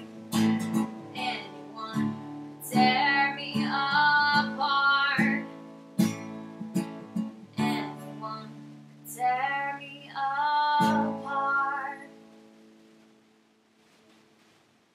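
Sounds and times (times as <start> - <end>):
acoustic guitar strumming: 0.0 - 12.8.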